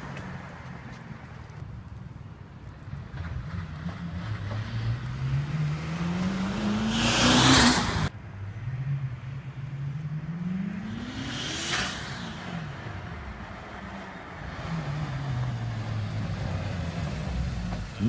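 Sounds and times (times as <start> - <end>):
car engine accelerating past: 3.1 - 18.0.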